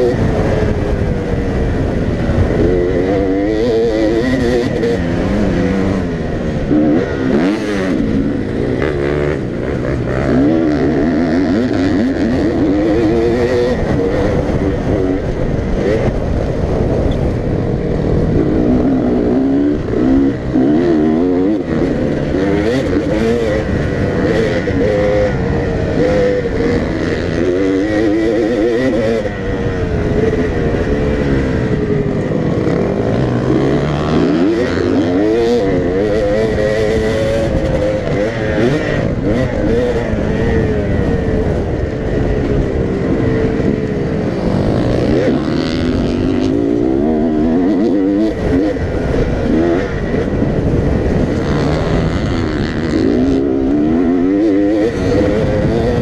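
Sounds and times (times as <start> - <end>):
dirt bike engine revving: 0.0 - 56.0
wind rushing over camera: 0.0 - 56.0.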